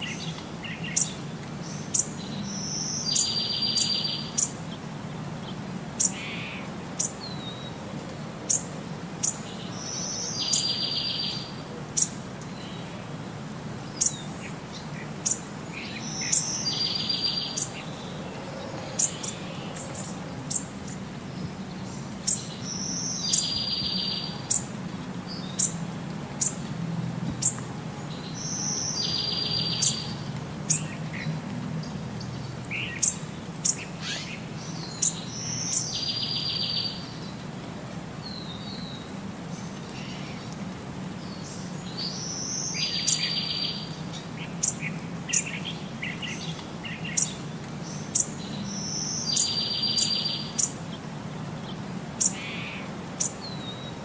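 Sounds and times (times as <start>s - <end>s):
birds chirping: 0.0s - 7.8s, 8.4s - 26.6s, 27.3s - 37.4s, 38.2s - 54.0s.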